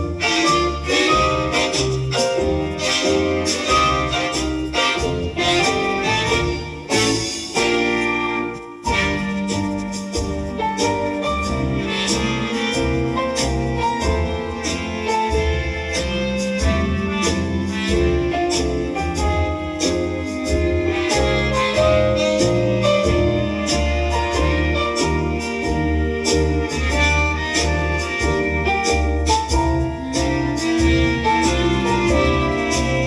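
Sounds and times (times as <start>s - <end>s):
bass line: 0.0s - 33.0s
keyboard chords: 0.0s - 33.0s
old-time jazz with piano: 0.0s - 33.0s.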